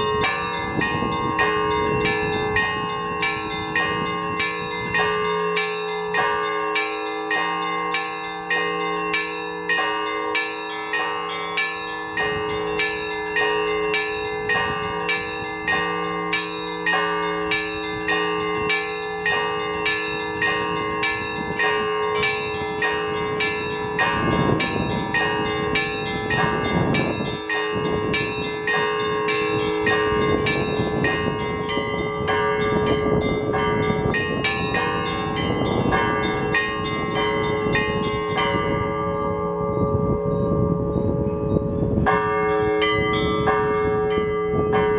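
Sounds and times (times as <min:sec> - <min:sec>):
church bells rung by hand: 0:00.0 - 0:44.9
wind buffeting microphone: 0:00.0 - 0:44.9.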